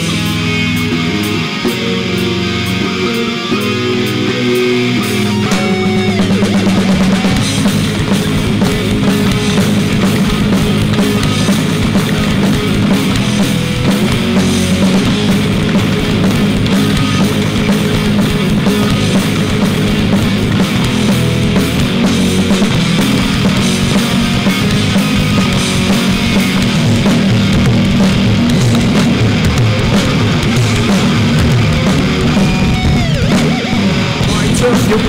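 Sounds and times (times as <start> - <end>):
bass guitar: 0.0 - 35.0
drum kit: 0.0 - 35.0
electric guitars: 0.0 - 35.0.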